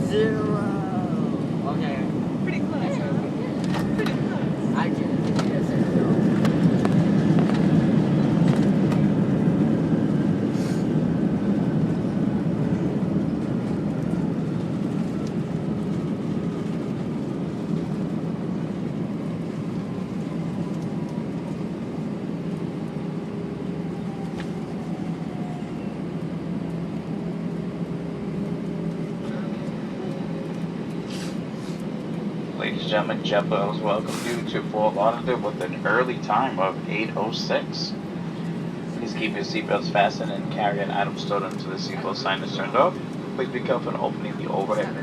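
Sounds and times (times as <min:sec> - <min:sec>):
jet engine and runway rumble: 0:00.0 - 0:45.0.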